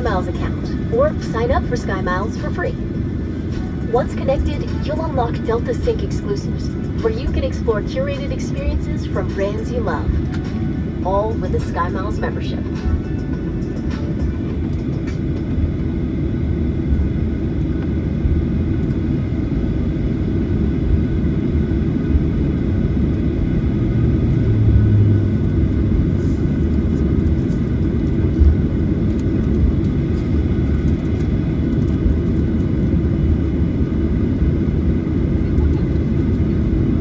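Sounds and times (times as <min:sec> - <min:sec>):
aircraft cabin engine rumble: 0:00.0 - 0:37.0.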